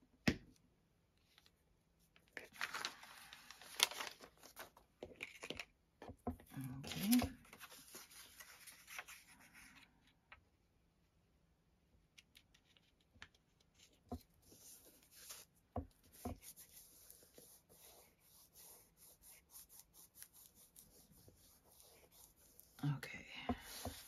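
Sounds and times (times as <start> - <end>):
soft paper rustling: 1.2 - 5.7, 6.4 - 10.4, 12.2 - 24.0.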